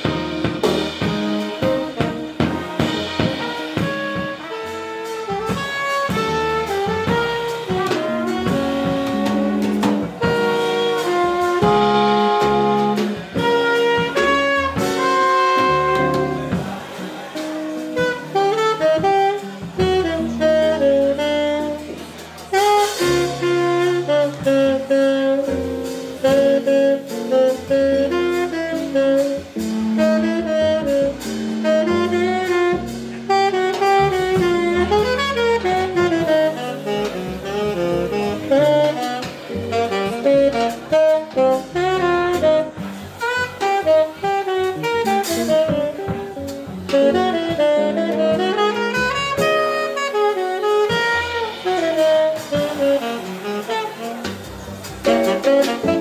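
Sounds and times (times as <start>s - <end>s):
drum kit: 0.0s - 56.0s
jazz guitar: 0.0s - 56.0s
tenor saxophone playing jazz: 0.0s - 56.0s
upright bass: 0.0s - 56.0s.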